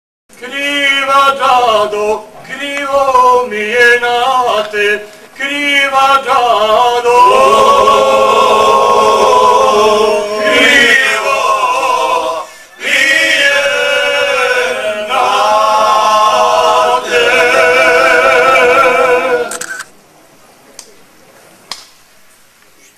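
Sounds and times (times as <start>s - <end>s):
men singing a cappella: 0.4s - 19.6s.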